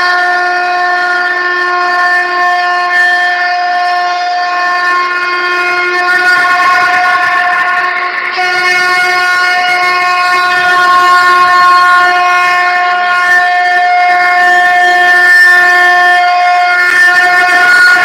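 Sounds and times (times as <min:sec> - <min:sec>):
conch shell blown: 0:00.0 - 0:18.0.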